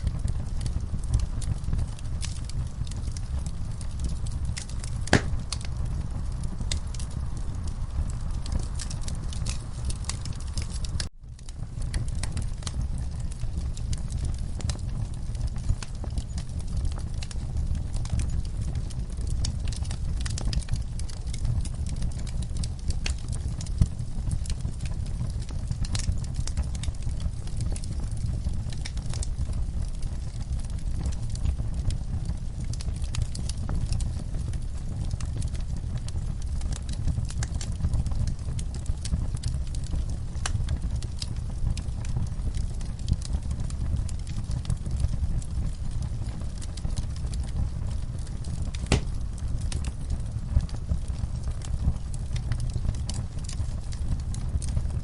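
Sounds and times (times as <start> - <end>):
logs crackling in fireplace: 0.0 - 55.0
low rumble of flames: 0.0 - 55.0.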